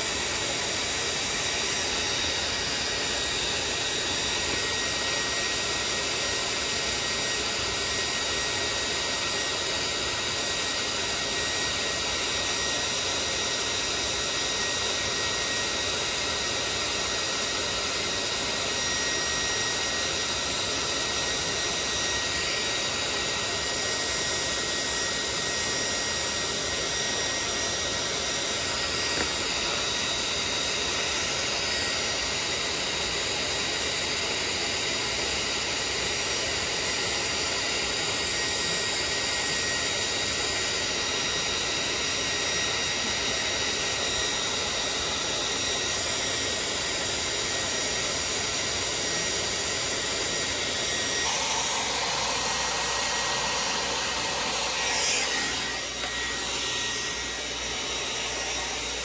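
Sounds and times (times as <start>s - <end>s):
heat gun blowing: 0.0s - 59.0s.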